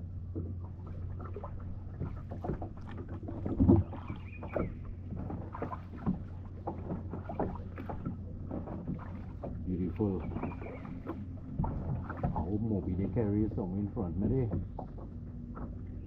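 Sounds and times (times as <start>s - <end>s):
paddle splashing: 0.0s - 16.0s.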